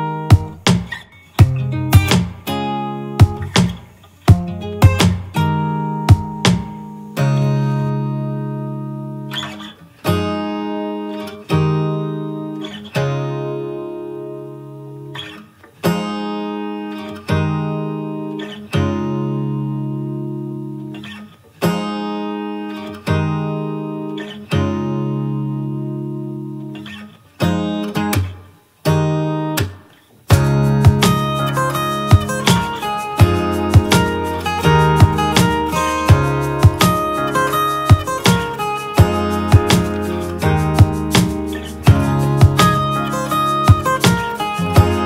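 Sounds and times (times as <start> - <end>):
strummed acoustic guitar: 0.0 - 45.0.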